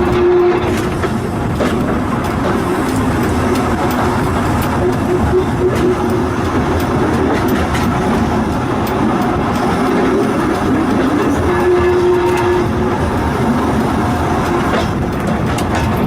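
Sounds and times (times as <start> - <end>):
railway car rumble: 0.0 - 16.0.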